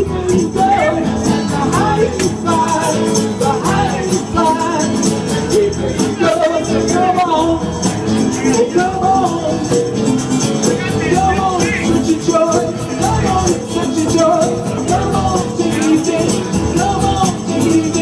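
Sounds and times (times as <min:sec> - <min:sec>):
music with fast percussion beat: 0:00.0 - 0:18.0.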